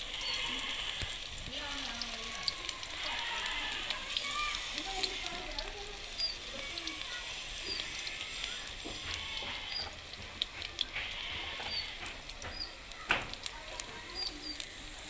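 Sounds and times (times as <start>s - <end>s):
deep-frying sizzle with crackles: 0.0s - 15.0s.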